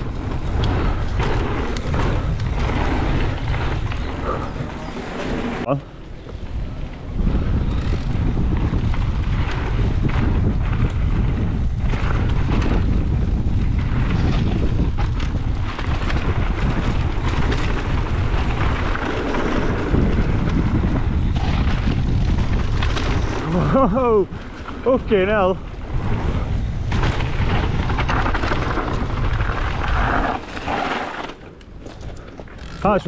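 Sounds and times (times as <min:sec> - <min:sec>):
bike knocks and rattles: 0:00.0 - 0:05.6, 0:06.2 - 0:25.0, 0:25.6 - 0:33.0
wind buffeting microphone: 0:00.0 - 0:31.0.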